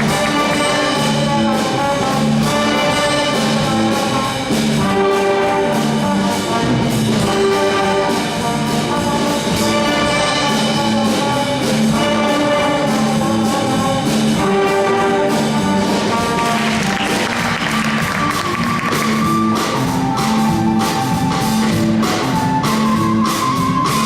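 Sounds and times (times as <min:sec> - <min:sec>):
concert band playing: 0:00.0 - 0:24.0.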